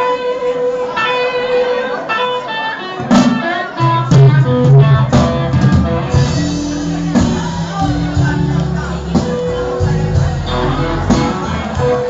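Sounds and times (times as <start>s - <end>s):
electric guitar lead notes: 0.0s - 12.0s
rock band playing: 0.0s - 12.0s.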